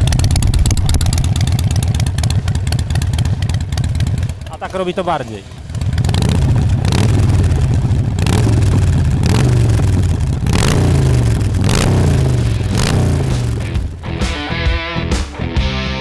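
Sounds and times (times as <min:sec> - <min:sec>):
exhaust cracks: 0:00.0 - 0:14.6
motorcycle engine revving: 0:00.0 - 0:14.8.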